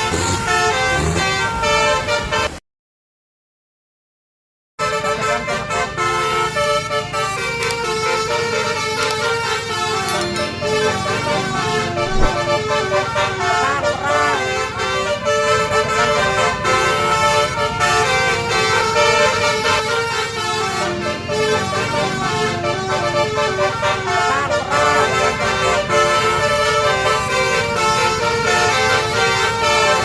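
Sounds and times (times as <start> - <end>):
bus multi-tone horn playing tune: 0.0 - 2.6, 4.8 - 30.0
engine and street noise: 0.0 - 2.6, 4.8 - 30.0.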